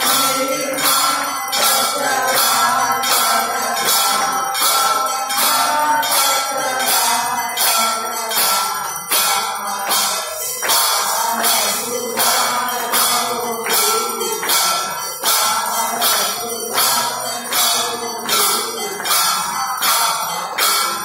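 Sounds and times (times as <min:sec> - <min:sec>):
bells and metal percussion clanging: 0:00.0 - 0:21.0.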